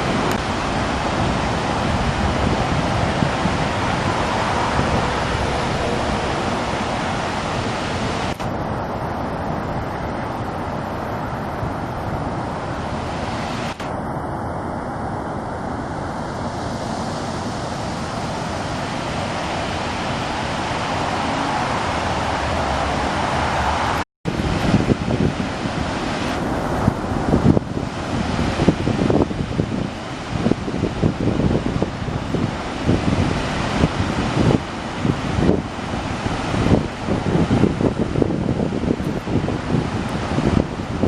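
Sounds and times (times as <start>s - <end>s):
waterfall rushing: 0.0s - 14.2s, 15.0s - 41.0s
wind on microphone: 0.0s - 41.0s.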